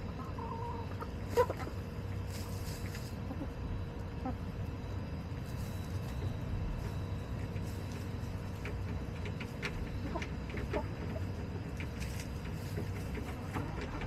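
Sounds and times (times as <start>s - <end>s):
beaks pecking wood chips: 0.0s - 14.0s
hens clucking softly: 0.0s - 14.0s.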